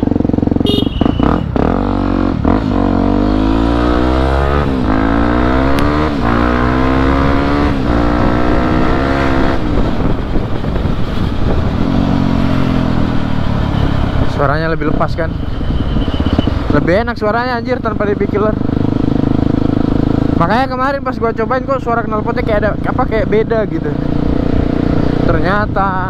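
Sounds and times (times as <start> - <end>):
motorcycle engine accelerating: 0.0 - 14.9, 16.0 - 26.0.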